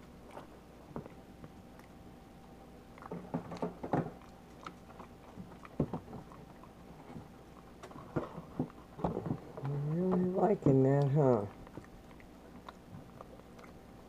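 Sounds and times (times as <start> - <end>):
monkey chewing and smacking: 0.0 - 14.0.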